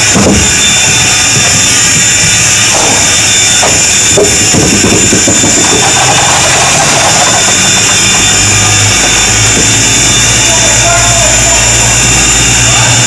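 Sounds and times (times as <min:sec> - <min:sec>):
low mechanical rumble: 0:00.0 - 0:13.0
steam locomotive hissing: 0:00.0 - 0:13.0.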